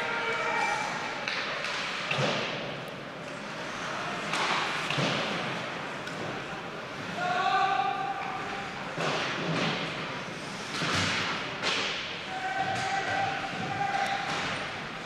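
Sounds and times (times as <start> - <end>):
hockey sticks and puck clacking: 0.4 - 6.5, 8.2 - 15.0.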